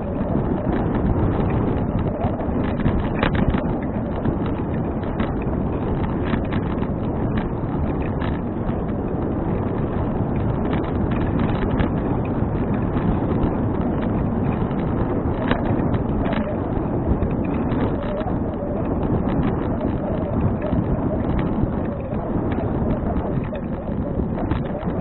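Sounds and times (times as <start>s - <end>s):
bicycle ticks and rattles: 0.0s - 25.0s
wind buffeting microphone: 0.0s - 25.0s.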